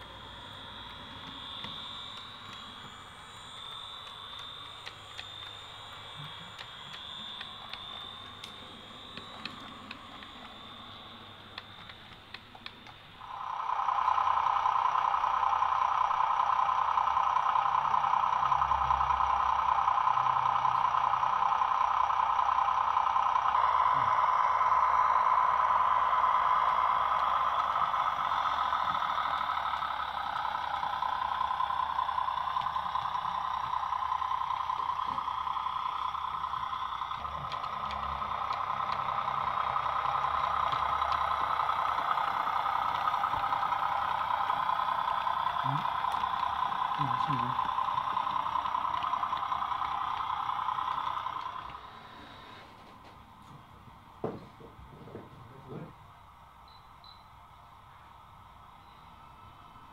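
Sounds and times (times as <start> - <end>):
model train humming: 0.0 - 59.9.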